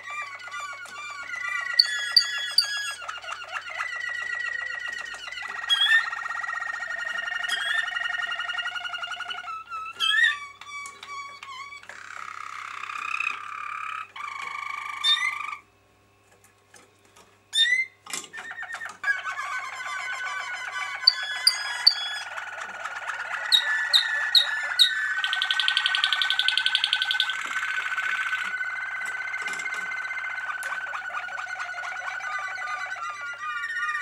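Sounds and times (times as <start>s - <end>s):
canaries singing trills: 0.0s - 15.7s, 17.0s - 34.0s.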